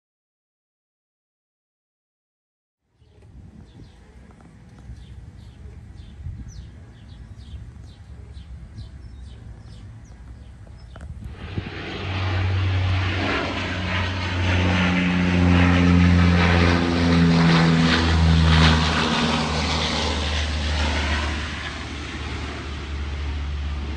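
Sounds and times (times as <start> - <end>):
military airplane flying overhead: 2.9 - 23.9.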